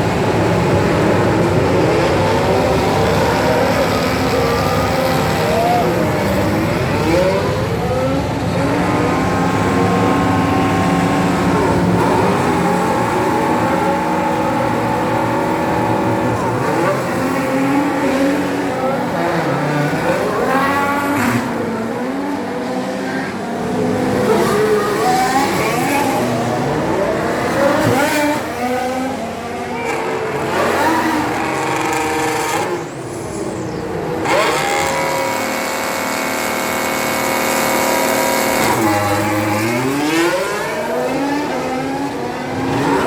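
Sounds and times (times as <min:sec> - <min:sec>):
race cars passing by: 0:00.0 - 0:43.0
race cars shifting up gears: 0:00.0 - 0:43.0
racing cars accelerating: 0:00.0 - 0:43.0.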